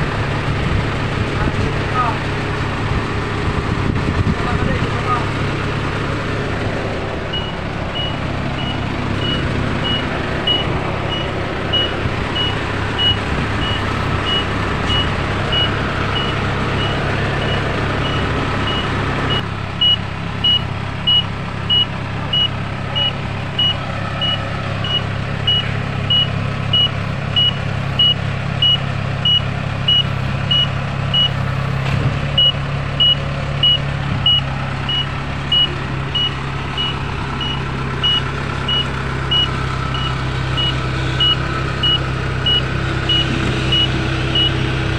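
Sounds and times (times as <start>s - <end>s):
diesel engine running: 0.0s - 44.9s
travel alarm beeping: 7.3s - 31.4s, 32.4s - 44.6s.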